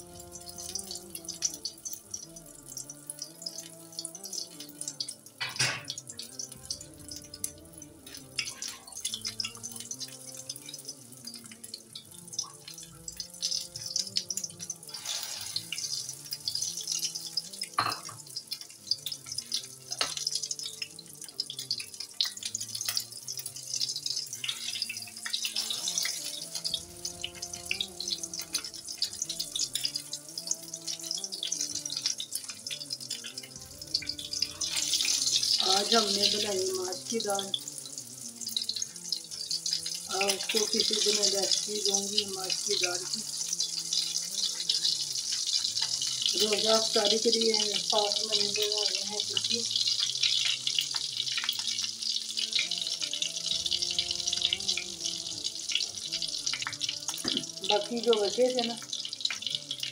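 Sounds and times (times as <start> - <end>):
faint music: 0.0 - 59.9
patties sizzling in hot oil: 0.0 - 59.9.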